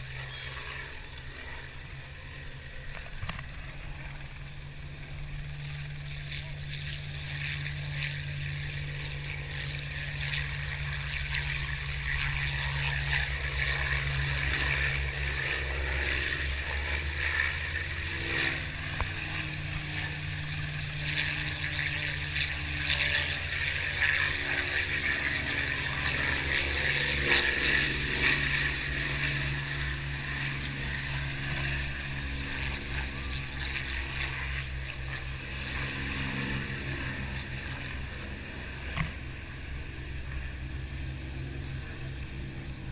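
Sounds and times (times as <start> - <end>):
propeller aircraft engines droning: 0.0 - 42.9.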